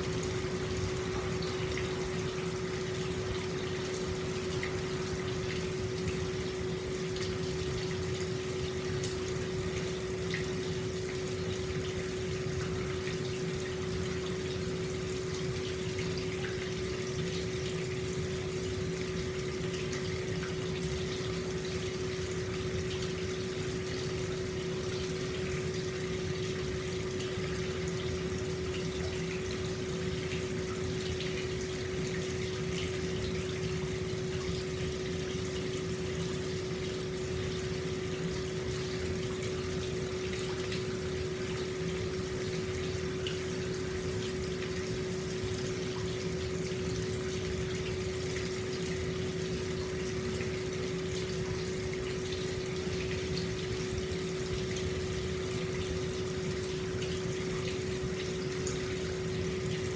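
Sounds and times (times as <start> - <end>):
constant humming tone: 0.0 - 59.9
water flowing into a bath: 0.0 - 59.9.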